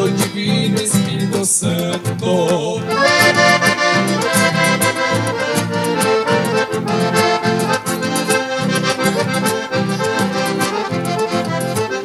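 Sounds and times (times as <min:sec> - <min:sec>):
accordion playing: 0:00.0 - 0:01.4, 0:02.8 - 0:12.0
rhythmic backing music: 0:00.0 - 0:12.0.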